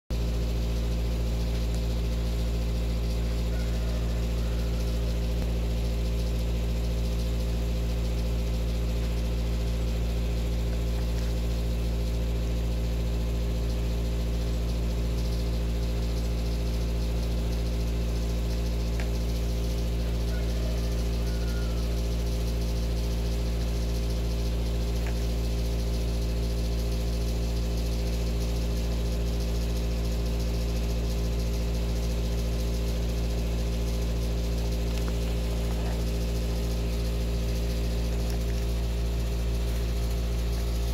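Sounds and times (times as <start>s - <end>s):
low mechanical hum: 0.1s - 40.9s.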